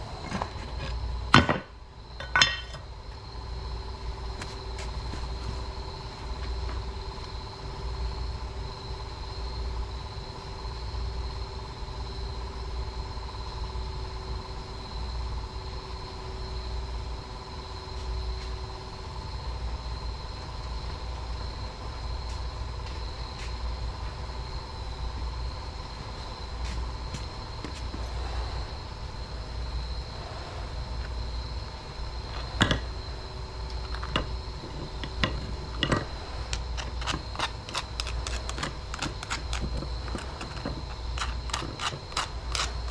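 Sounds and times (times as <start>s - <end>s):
furnace pulsing rumble and whine: 0.0s - 42.9s.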